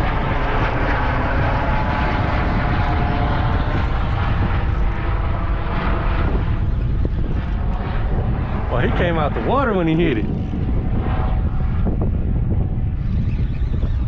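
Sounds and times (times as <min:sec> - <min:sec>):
motor rumbling: 0:00.0 - 0:14.0.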